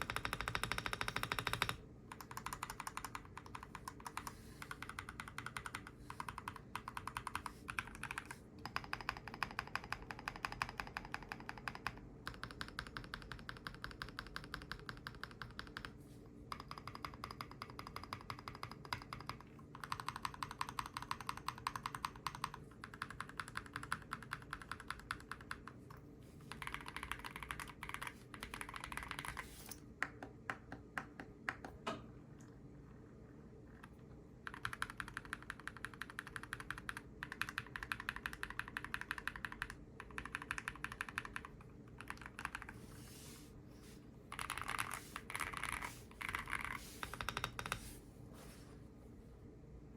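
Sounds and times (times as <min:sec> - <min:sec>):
mechanical keyboard typing: 0:00.0 - 0:29.7, 0:34.4 - 0:42.8, 0:44.3 - 0:47.9.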